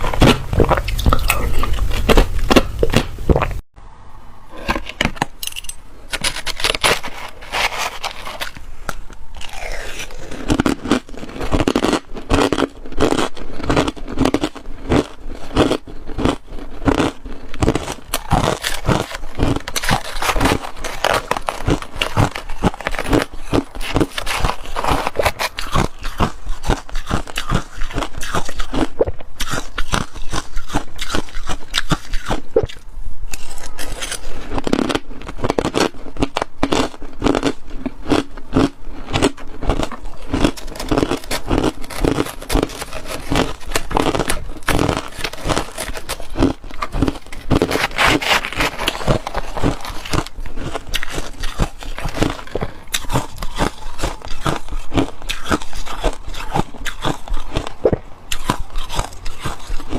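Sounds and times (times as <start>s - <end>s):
ice crunching being chewed: 6.2s - 59.9s.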